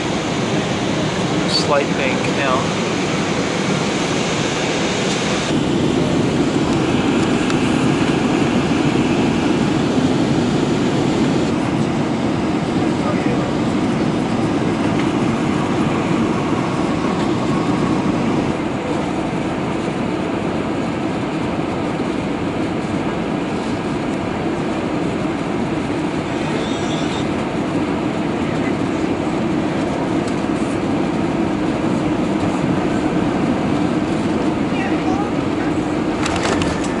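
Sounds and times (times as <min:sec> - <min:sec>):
aircraft cabin engine and airflow rumble: 0:00.0 - 0:37.0.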